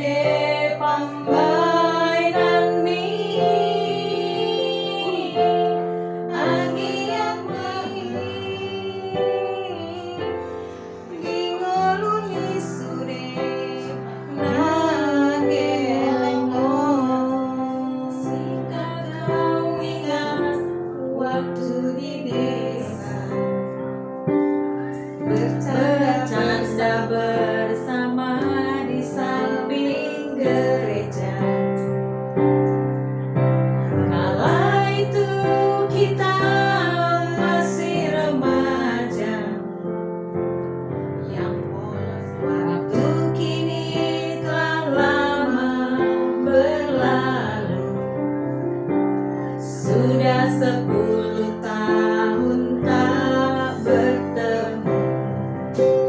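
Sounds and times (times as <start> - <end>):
women singing together: 0.0 - 23.5, 25.2 - 31.8, 34.0 - 39.8, 41.2 - 48.2, 49.6 - 55.3
digital piano chords: 0.0 - 56.0.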